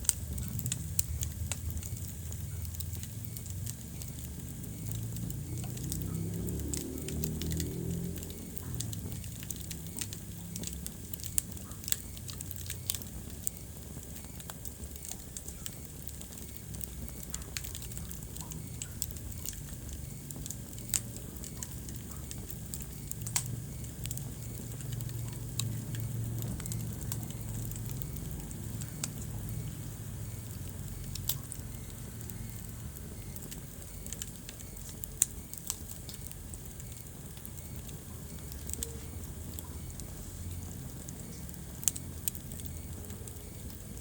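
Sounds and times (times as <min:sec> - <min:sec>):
fire crackling and popping: 0:00.0 - 0:44.0
fire flames rumbling: 0:00.0 - 0:44.0.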